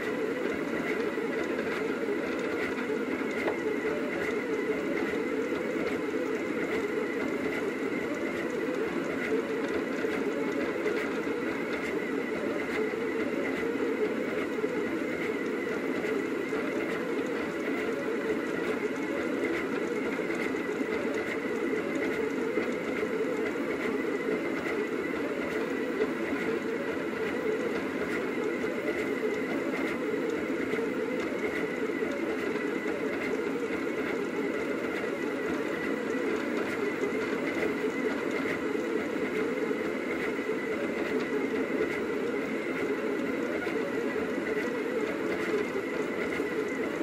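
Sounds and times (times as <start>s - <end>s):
printer motors whirring: 0.0s - 47.0s
thin steady whine: 0.0s - 47.0s.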